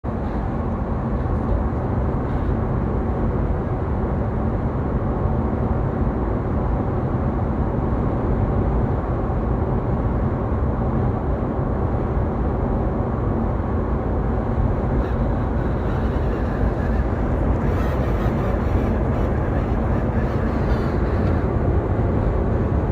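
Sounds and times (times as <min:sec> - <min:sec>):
road and wind noise in car: 0:00.0 - 0:22.9
faint high sunroof whine: 0:00.1 - 0:22.9.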